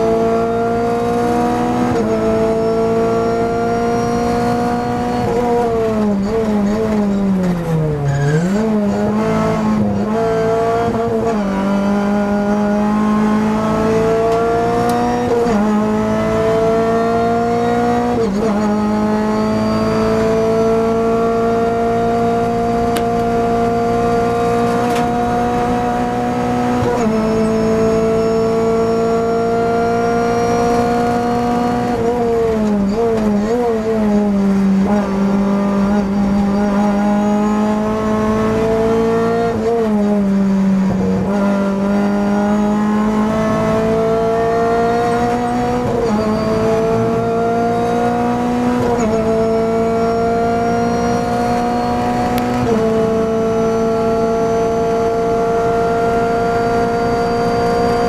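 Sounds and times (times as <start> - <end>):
engine throttle blips downshifting: 0.0 - 58.0
race car engine accelerating: 0.0 - 58.0.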